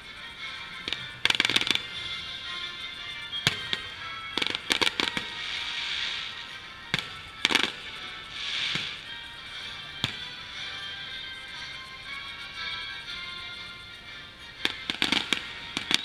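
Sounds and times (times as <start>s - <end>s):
fireworks bursting: 0.0s - 13.2s, 14.4s - 16.0s
music playing: 0.0s - 16.0s.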